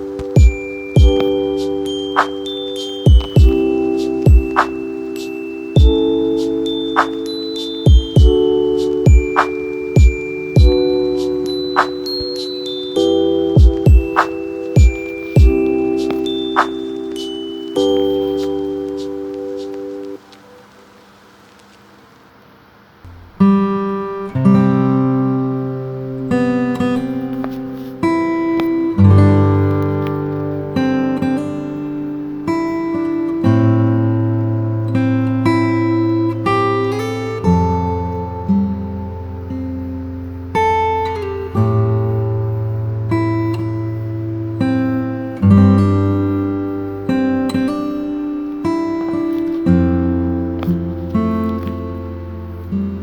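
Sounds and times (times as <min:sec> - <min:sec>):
acoustic guitar strumming chords: 0:00.0 - 0:20.9, 0:23.1 - 0:53.0.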